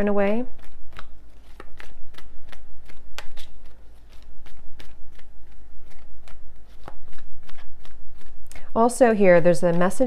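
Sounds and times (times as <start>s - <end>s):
cards being shuffled: 0.5s - 10.0s.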